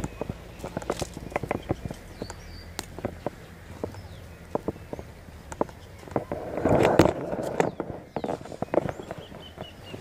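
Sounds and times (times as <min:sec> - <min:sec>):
footsteps on dirt: 0:00.0 - 0:10.0.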